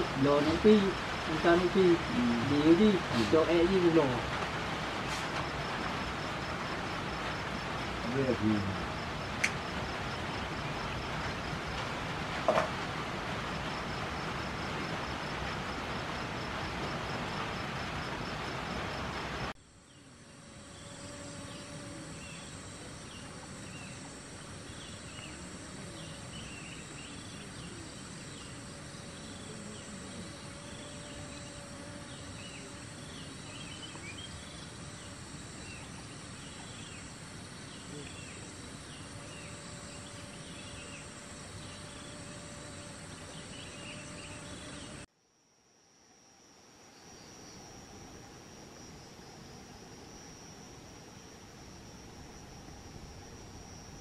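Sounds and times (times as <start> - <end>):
high-pitched insect drones: 0.0 - 54.0
insect chirps: 0.0 - 54.0
pulsing insect call: 0.0 - 54.0
steady hiss: 0.0 - 54.0.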